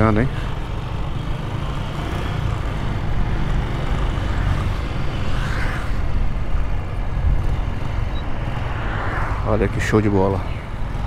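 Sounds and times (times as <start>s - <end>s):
motorcycle engine rumble: 0.0s - 11.0s.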